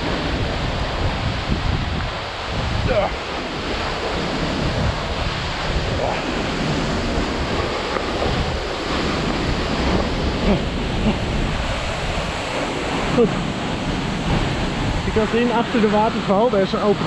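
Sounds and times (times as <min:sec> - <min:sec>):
waterfall rushing: 0:00.0 - 0:17.0
wind noise on microphone: 0:00.0 - 0:17.0.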